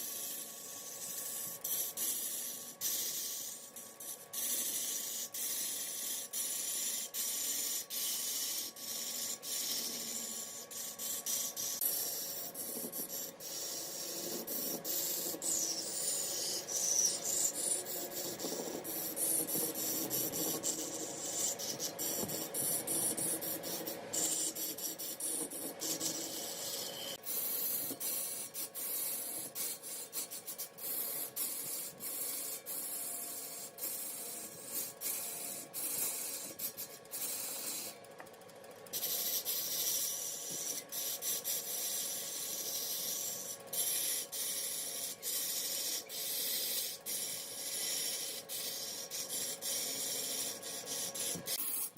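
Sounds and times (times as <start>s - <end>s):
faint machine hum: 0.0s - 51.9s
lathe tool shaving spinning wood: 0.0s - 51.9s.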